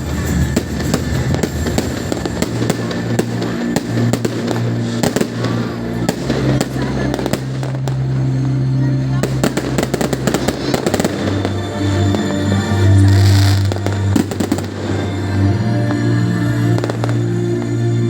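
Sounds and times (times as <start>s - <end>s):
fireworks bangs and crackles: 0.0s - 17.9s
music with long low notes: 0.0s - 18.0s.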